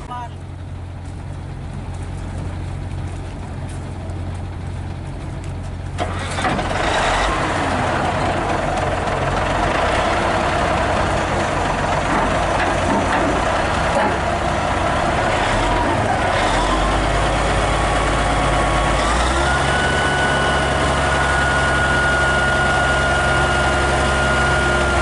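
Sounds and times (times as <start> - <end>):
truck engine hum: 0.0 - 25.0.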